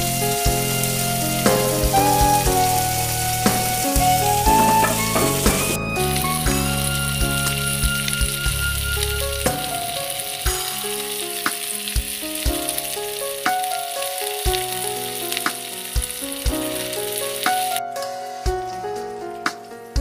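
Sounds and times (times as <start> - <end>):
patties sizzling in oil: 0.0 - 17.8
background music with steady beat: 0.0 - 20.0.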